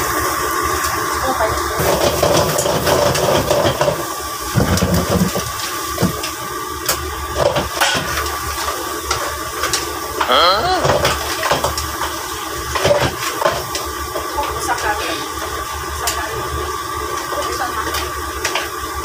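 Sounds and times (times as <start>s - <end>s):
burner and ventilation roar: 0.0s - 19.0s.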